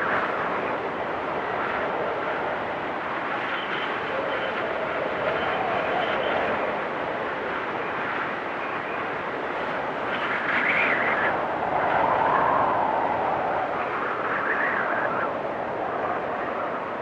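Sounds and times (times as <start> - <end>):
storm wind blowing hard: 0.0 - 17.0
whistling wind gusts: 0.0 - 17.0.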